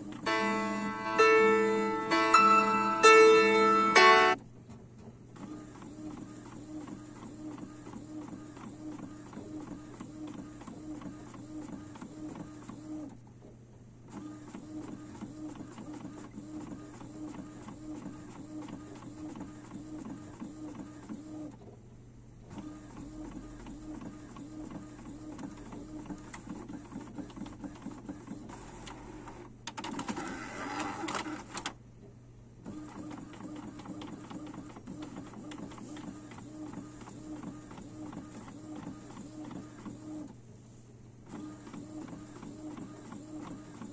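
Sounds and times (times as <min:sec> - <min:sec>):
inkjet printer printing: 0:00.0 - 0:04.4, 0:05.4 - 0:13.2, 0:14.1 - 0:21.6, 0:22.5 - 0:31.7, 0:32.6 - 0:40.4, 0:41.3 - 0:43.9.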